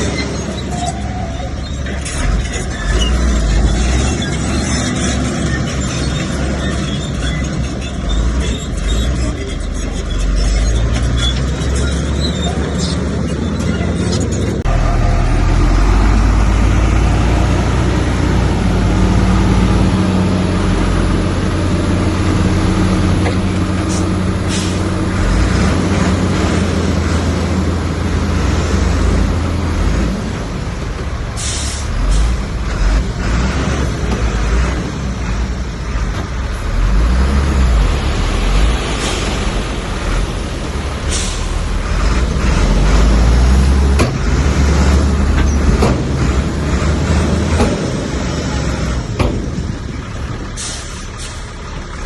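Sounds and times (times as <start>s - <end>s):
diesel earthmoving machine engine: 0.0s - 52.0s.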